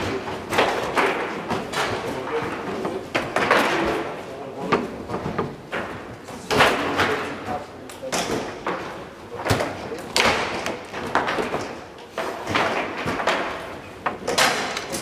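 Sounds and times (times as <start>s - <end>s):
foosball knocks and clacks: 0.0s - 15.0s.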